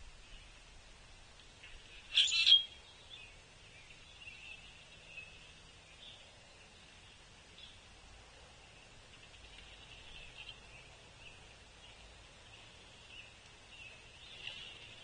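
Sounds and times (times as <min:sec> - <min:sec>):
birds calling: 0:01.5 - 0:07.9, 0:08.7 - 0:15.0.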